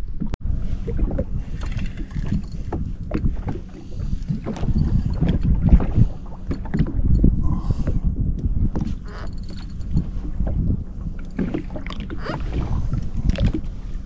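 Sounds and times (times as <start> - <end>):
water lapping against hull: 0.0 - 14.0
wind buffeting microphone: 0.0 - 14.0.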